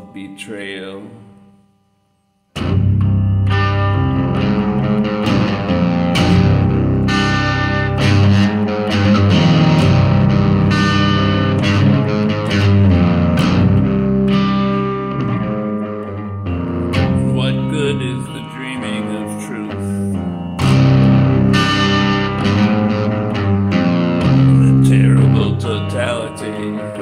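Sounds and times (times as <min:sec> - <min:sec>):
distorted electric guitar: 0:02.5 - 0:27.0.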